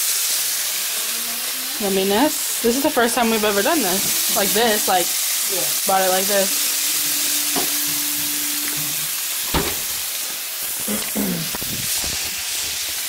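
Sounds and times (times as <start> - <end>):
steaks sizzling in skillet: 0.0 - 13.0.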